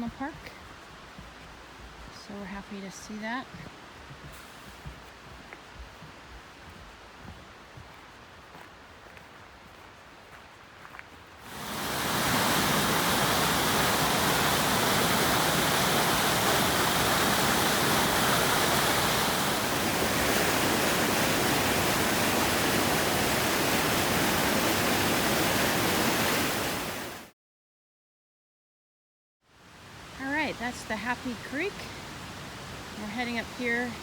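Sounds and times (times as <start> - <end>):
creek water roaring: 0.0 - 27.3, 29.6 - 34.0.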